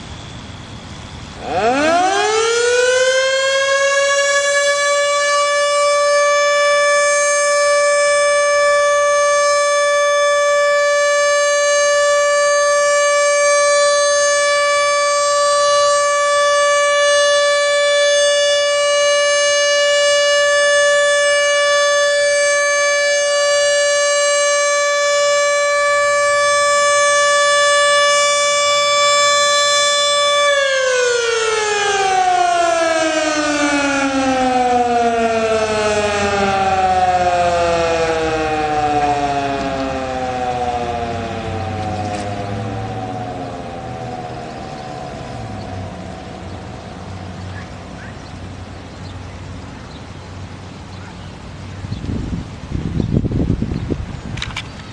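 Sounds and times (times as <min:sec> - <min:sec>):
electromechanical siren steady tone: 0:00.0 - 0:54.9.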